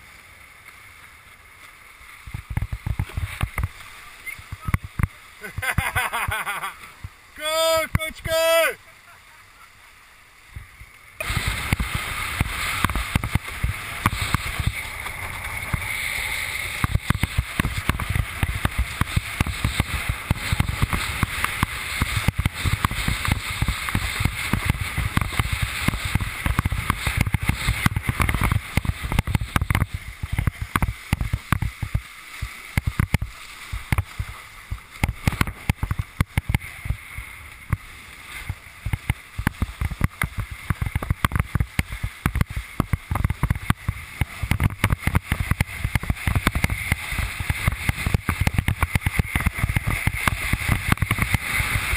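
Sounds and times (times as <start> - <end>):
board hull slapping water: 0.0 - 51.9
rushing hiss of water: 0.0 - 51.9.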